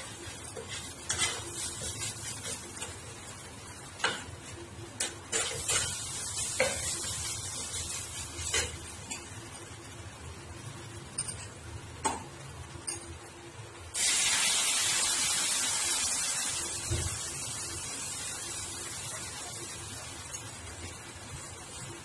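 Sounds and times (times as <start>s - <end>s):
liquid sizzling in hot pan: 0.0s - 11.0s, 13.9s - 22.0s.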